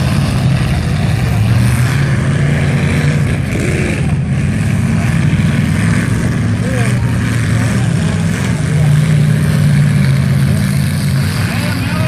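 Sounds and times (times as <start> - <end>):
car engines running loudly: 0.0 - 12.0.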